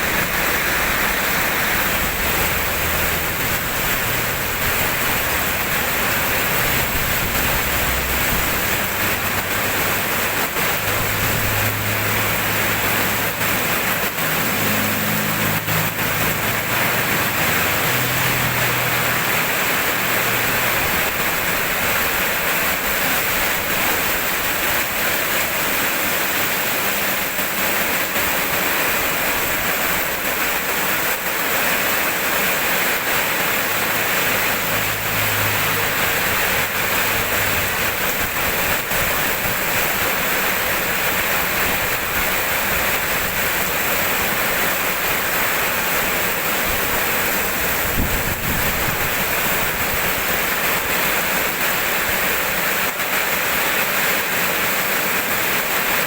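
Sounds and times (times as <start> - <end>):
heavy rainfall hiss: 0.0 - 56.0.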